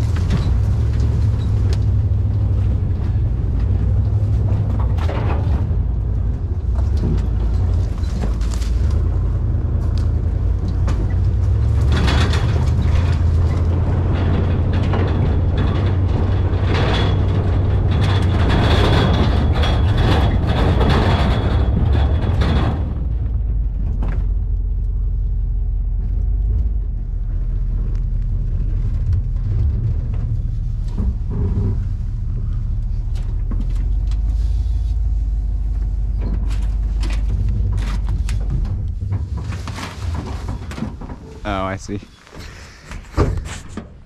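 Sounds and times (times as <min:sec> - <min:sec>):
truck bed and rack rattling: 0:00.0 - 0:44.0
truck engine rumble: 0:00.0 - 0:44.0.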